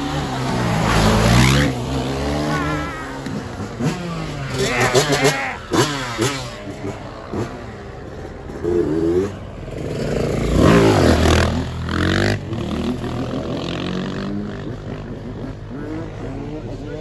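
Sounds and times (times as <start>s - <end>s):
motor scooter engines revving: 0.0s - 17.0s.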